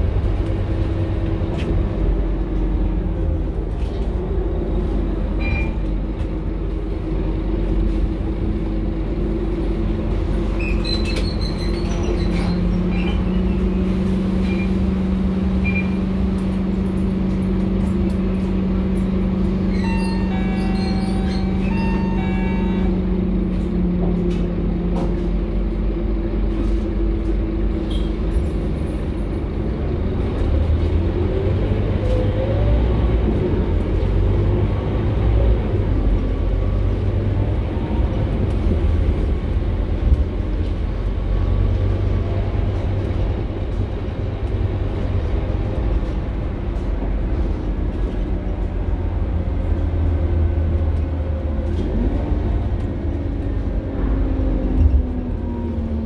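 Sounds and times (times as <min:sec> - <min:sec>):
bus engine rumble and road noise: 0:00.0 - 0:56.0.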